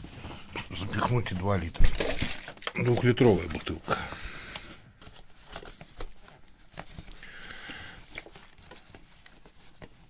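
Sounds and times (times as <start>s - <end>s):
plastic bottle creaking and clicking: 0.6s - 9.4s.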